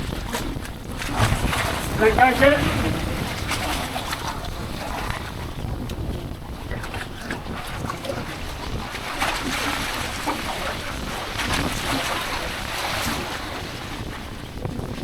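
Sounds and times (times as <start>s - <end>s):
sea water washing: 0.0s - 15.0s
wind buffeting microphone: 0.0s - 15.0s.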